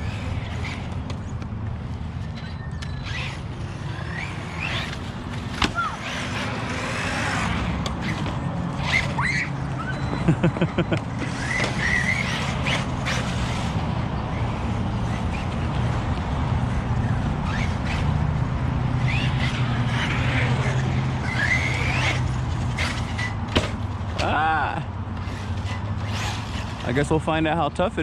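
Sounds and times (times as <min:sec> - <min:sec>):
toy car electric motor whining: 0:02.1 - 0:27.1.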